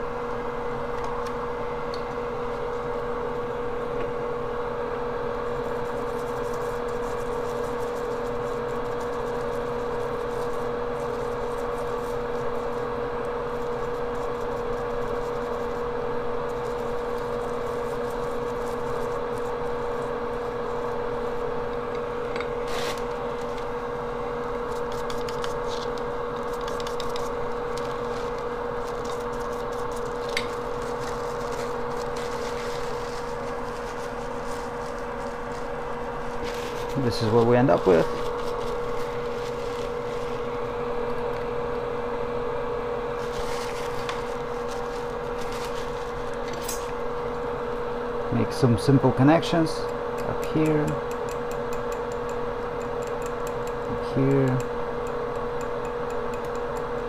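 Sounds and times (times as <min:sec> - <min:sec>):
small electric fan humming: 0:00.0 - 0:57.0.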